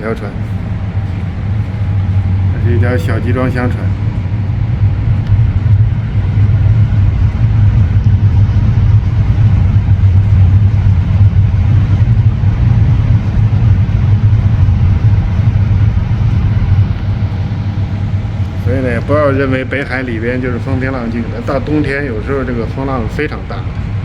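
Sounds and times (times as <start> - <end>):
gale-force wind: 0.0 - 24.0.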